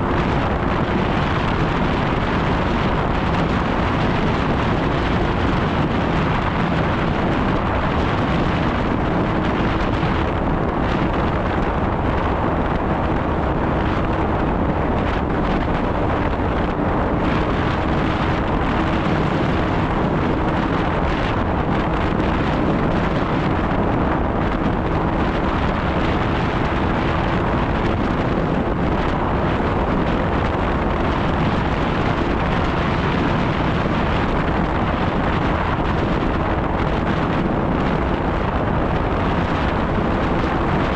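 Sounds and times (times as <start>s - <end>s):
rushing noise: 0.0s - 40.9s
snowmobile engine hum: 0.0s - 40.9s
wind buffeting microphone: 0.0s - 40.9s.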